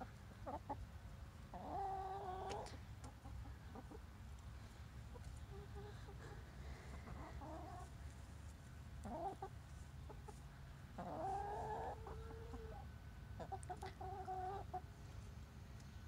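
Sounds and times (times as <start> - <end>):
hens clucking: 0.0 - 15.1.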